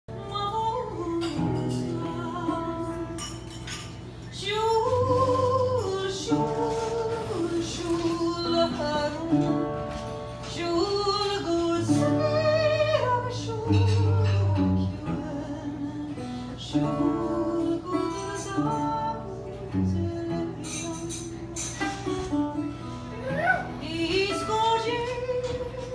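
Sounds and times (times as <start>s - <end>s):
woman singing: 0.1s - 25.9s.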